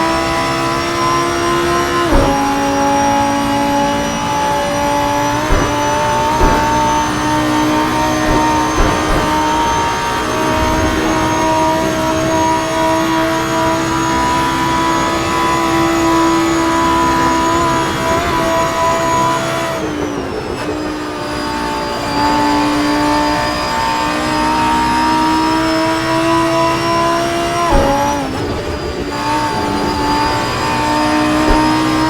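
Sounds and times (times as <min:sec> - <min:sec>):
sports car engine revving high: 0:00.0 - 0:32.0.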